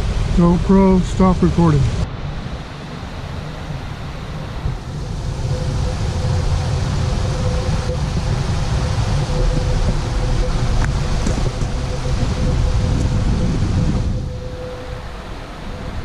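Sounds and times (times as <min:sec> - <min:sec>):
faint steady hum: 0:00.0 - 0:16.0
wind buffeting microphone: 0:00.0 - 0:16.0.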